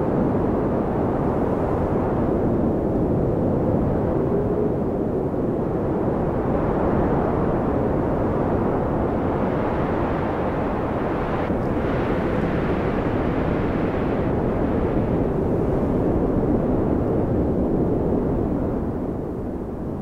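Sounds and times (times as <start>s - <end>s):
snowstorm wind rushing: 0.0s - 20.0s.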